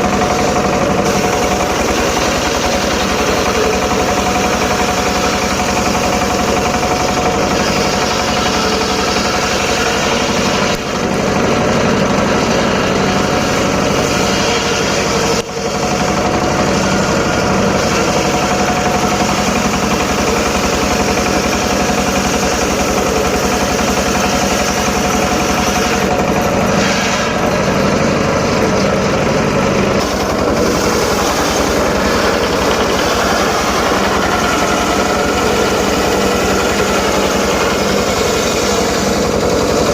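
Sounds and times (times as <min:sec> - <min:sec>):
circular saw ripping lumber: 0:00.0 - 0:39.9.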